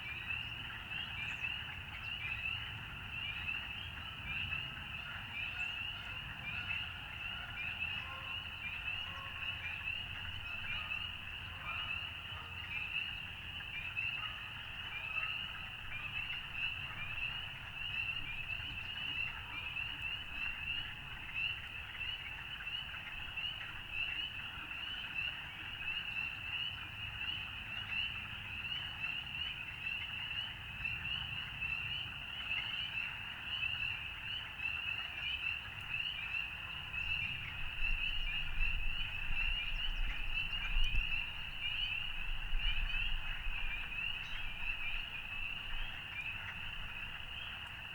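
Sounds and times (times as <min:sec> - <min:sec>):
frogs peeping in chorus: 0:00.0 - 0:47.9.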